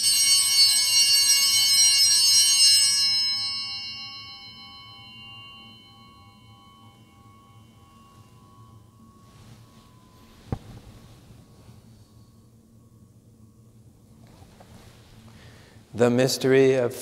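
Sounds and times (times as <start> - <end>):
altar bells ringing: 0.0 - 16.1.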